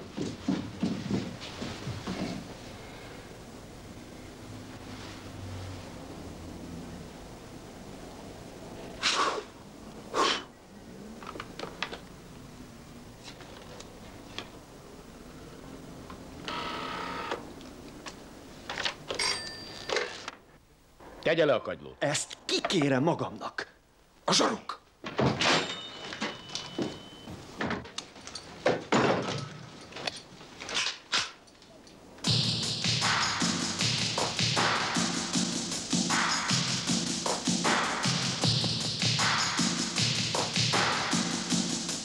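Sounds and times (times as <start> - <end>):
low room hiss: 0.0 - 42.0.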